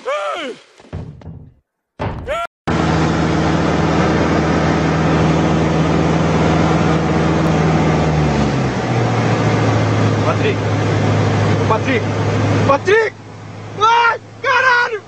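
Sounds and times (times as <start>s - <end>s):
light aircraft engine and propeller drone: 2.7s - 15.0s.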